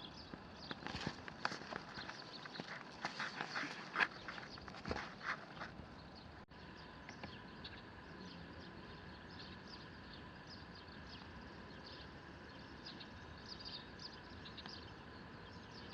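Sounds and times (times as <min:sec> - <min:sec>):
small birds chirping: 0:00.0 - 0:15.9
steady background hiss: 0:00.0 - 0:15.9.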